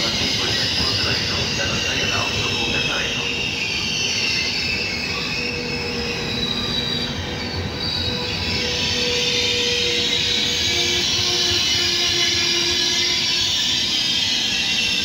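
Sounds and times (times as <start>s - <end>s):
train rumble: 0.0s - 15.0s
train wheel squeals: 0.0s - 15.0s.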